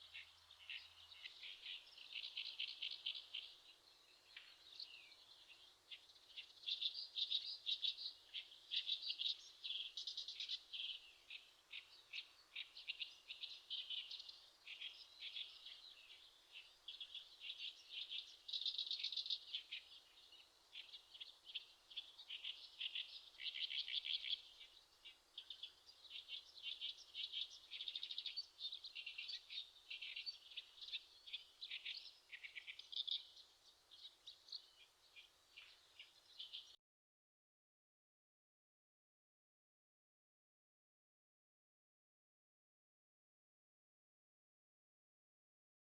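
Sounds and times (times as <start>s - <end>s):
skylark singing: 0.0s - 36.8s.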